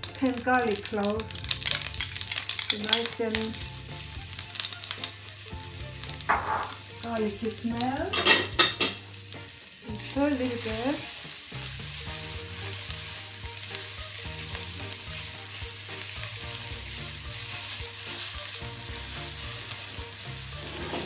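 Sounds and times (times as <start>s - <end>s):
garlic sizzling in oil: 0.0s - 21.0s
soft background music: 0.0s - 21.0s.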